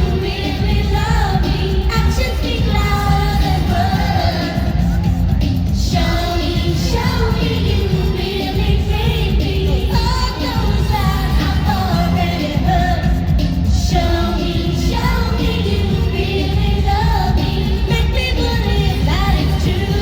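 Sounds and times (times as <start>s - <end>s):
dance-pop music with singing: 0.0s - 20.0s.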